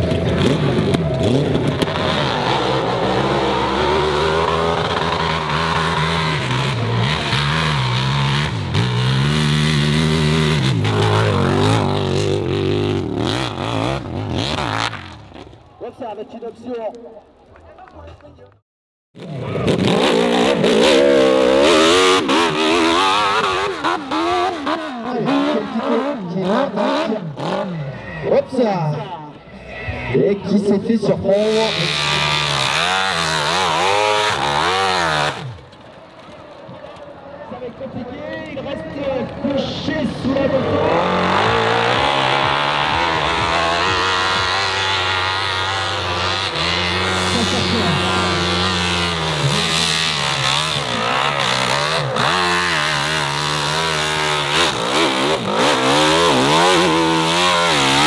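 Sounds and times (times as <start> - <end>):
motorcycle engine revving: 0.0 - 15.6, 19.2 - 28.4, 31.2 - 36.4, 38.7 - 58.0.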